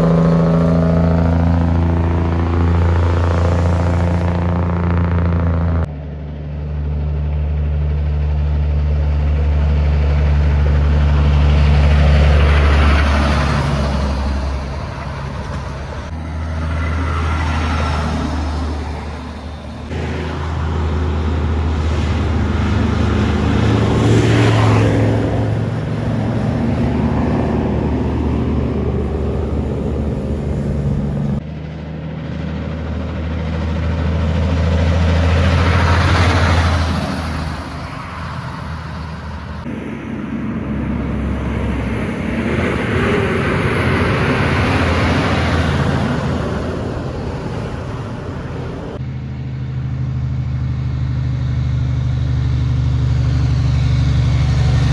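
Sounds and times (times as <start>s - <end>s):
trucks driving past: 0.0s - 54.9s.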